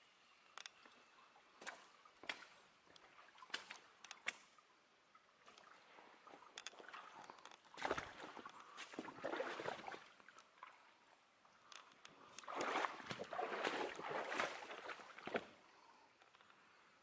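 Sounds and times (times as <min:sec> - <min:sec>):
water splashing and sloshing: 0:00.6 - 0:16.4.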